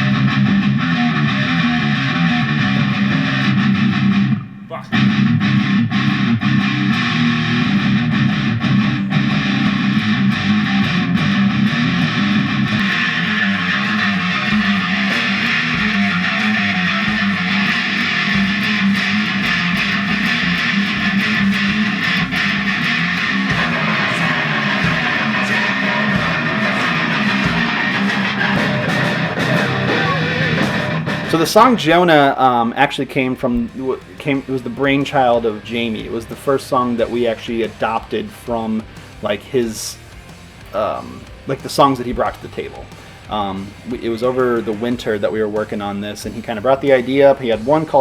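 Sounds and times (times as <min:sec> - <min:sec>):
electric guitar riff: 0:00.0 - 0:48.0.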